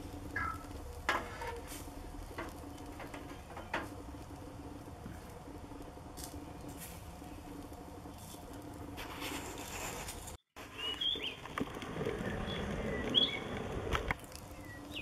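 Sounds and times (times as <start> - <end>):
fat popping and crackling on coals: 0.0 - 15.0.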